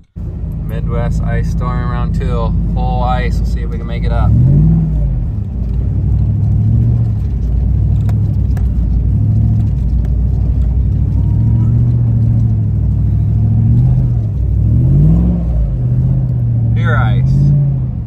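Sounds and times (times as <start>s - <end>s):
truck engine: 0.0s - 18.0s
tyre and road noise: 0.0s - 18.0s.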